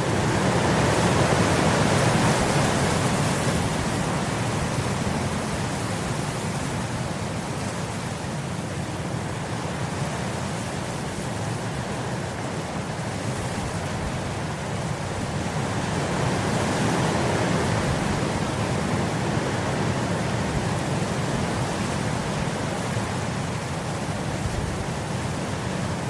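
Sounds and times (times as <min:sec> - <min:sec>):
wind blowing through grass: 0:00.0 - 0:26.0.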